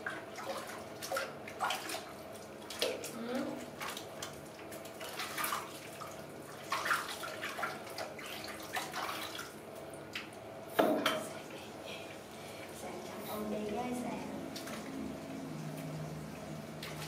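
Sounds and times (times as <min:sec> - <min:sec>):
water sloshing and splashing in sink: 0:00.0 - 0:17.0.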